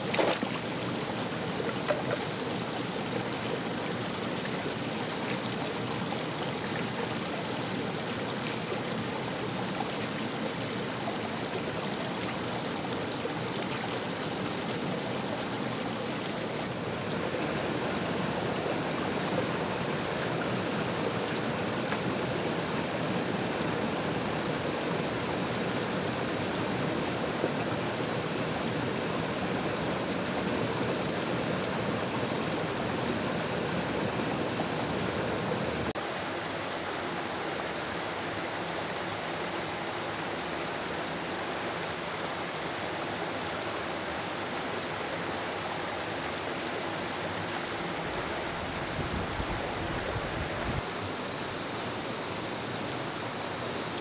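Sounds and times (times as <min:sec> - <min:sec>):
creek rushing over rocks: 0:00.0 - 0:54.0.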